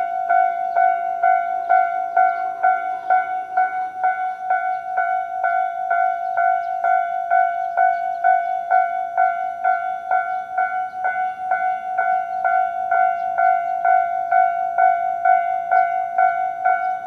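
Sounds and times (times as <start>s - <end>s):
level-crossing electronic warning ding: 0.0s - 17.0s.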